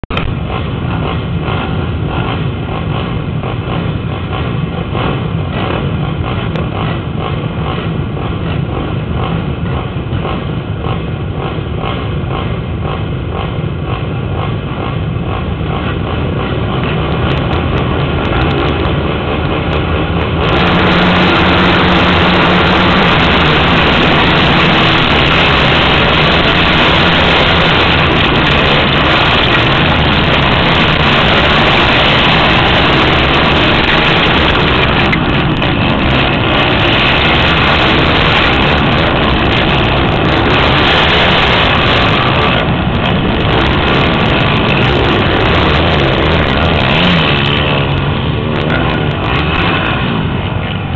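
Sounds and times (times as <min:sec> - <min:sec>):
quad engines revving: 0:00.0 - 0:50.9
quad running at full throttle: 0:00.0 - 0:50.9.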